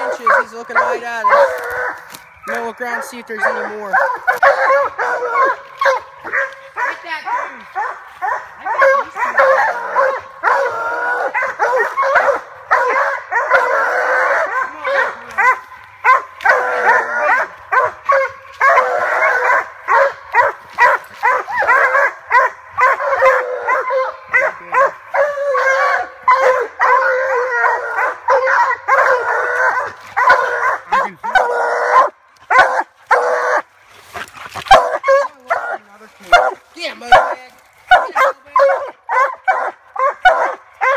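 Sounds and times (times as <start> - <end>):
hounds barking: 0.0 - 40.9.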